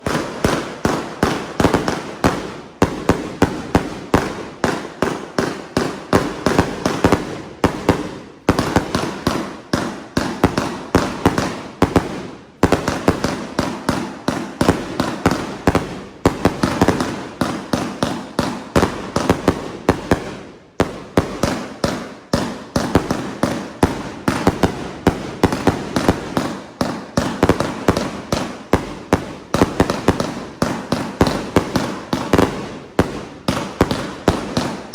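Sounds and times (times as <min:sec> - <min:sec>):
fireworks launching and bursting: 0:00.0 - 0:34.9.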